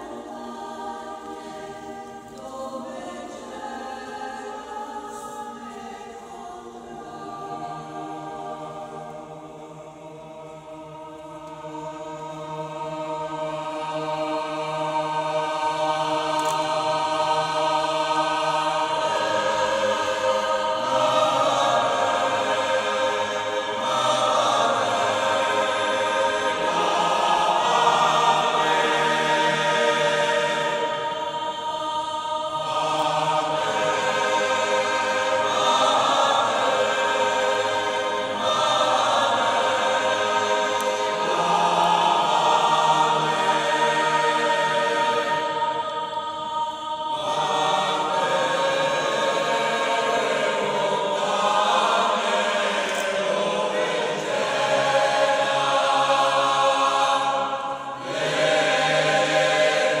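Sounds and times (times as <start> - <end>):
mixed choir singing a cappella: 0.0 - 60.0.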